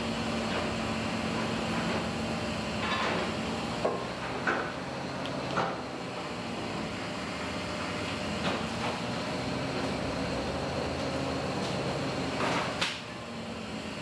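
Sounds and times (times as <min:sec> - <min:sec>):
machinery droning: 0:00.0 - 0:14.0.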